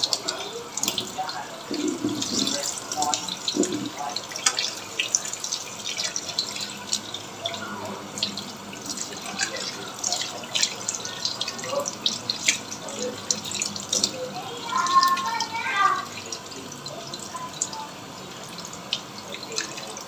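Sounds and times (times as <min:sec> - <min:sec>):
water splats: 0:00.0 - 0:17.8
hands rinsing raw chicken: 0:00.0 - 0:20.0
tap water running into sink: 0:00.0 - 0:20.0.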